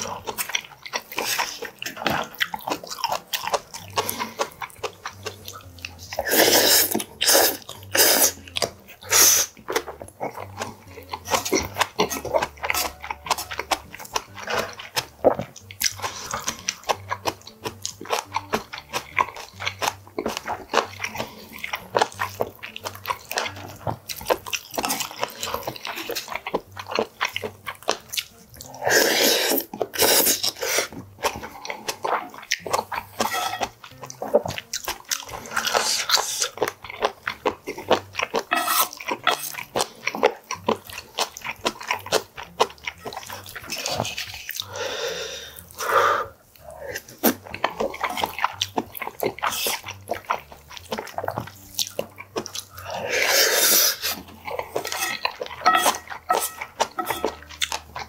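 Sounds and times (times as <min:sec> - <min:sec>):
person chewing and smacking food: 0:00.0 - 0:58.0.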